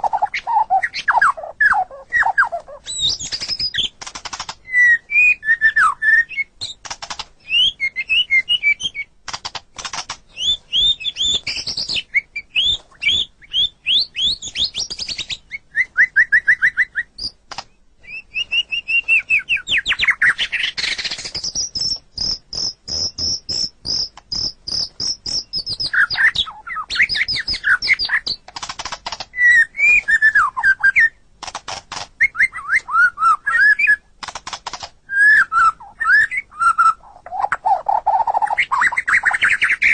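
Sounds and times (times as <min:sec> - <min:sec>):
songbird singing varied song: 0:00.0 - 0:09.2, 0:10.3 - 0:28.5, 0:29.2 - 0:31.2, 0:32.2 - 0:34.0, 0:35.0 - 0:39.9.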